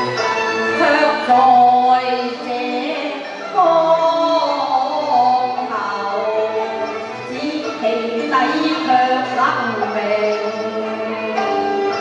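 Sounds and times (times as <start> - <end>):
instrumental accompaniment: 0.0 - 12.0
opera singing: 0.7 - 12.0.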